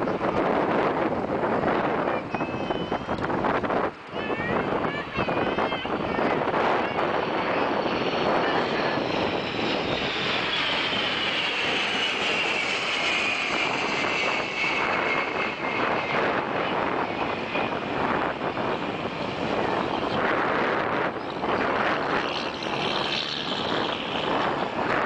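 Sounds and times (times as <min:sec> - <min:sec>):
jet aircraft passing overhead: 0:00.0 - 0:25.0.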